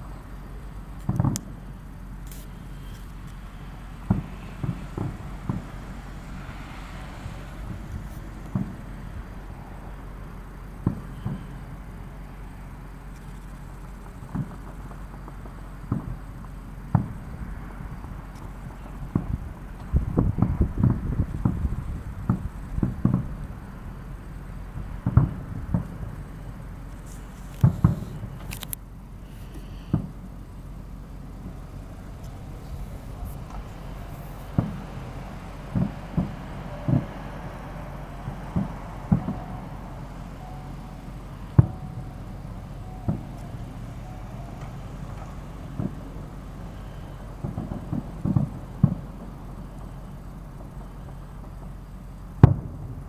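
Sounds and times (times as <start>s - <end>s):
distant fireworks booming: 0.0s - 53.0s
steady low rumble: 0.0s - 53.0s.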